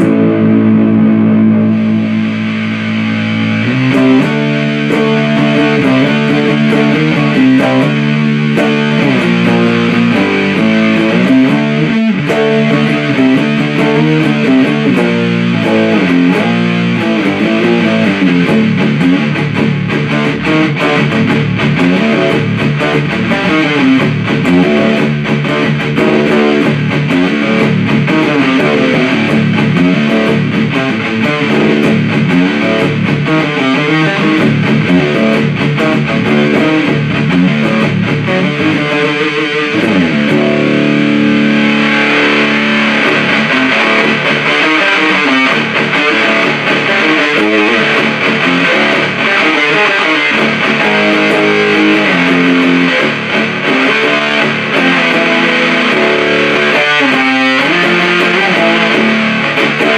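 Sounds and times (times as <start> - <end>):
distorted electric guitar riffs: 0.0 - 59.9.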